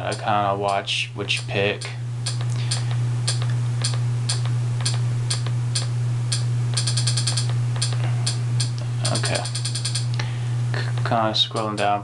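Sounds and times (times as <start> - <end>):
steady low hum: 0.0 - 12.0
remote control clicks: 0.1 - 10.1.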